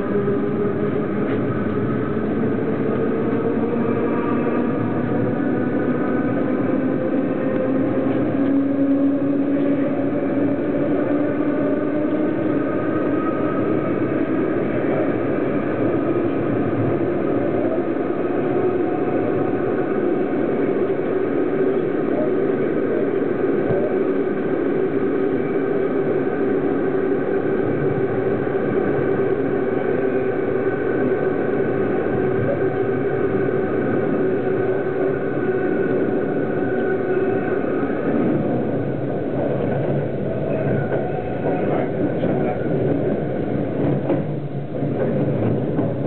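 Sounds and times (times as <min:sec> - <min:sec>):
train wheels rumbling in tunnel: 0:00.0 - 0:46.0.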